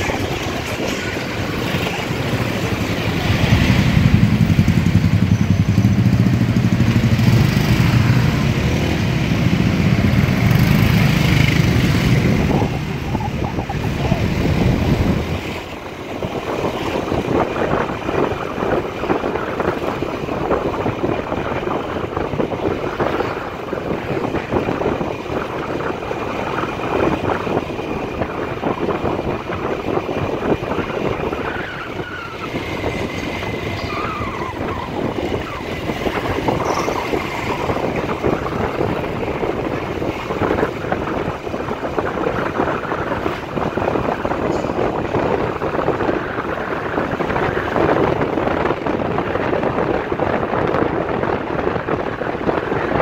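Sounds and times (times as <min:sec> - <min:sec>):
traffic engines: 0:00.0 - 0:53.0
wind rushing over microphone: 0:00.0 - 0:53.0.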